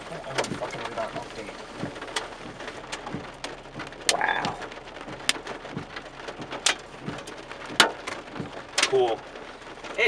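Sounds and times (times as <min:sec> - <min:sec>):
raindrops tapping close: 0:00.0 - 0:10.0
steady rain: 0:00.0 - 0:10.0.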